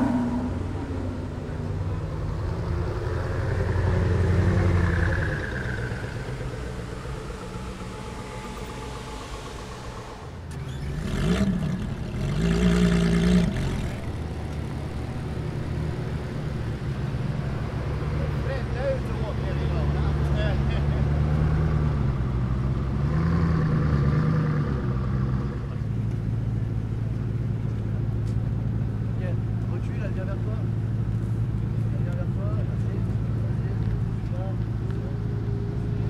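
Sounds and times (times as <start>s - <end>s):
car engine revving and idling: 0.0s - 36.0s.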